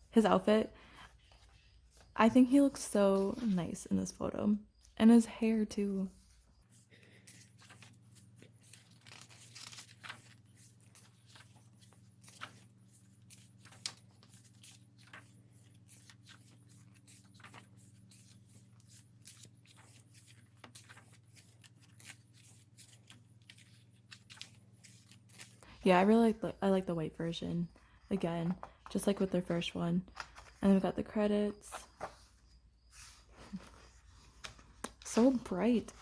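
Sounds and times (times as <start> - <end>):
book pages rustling and turning: 1.1 - 3.9, 4.8 - 26.4, 27.2 - 36.0.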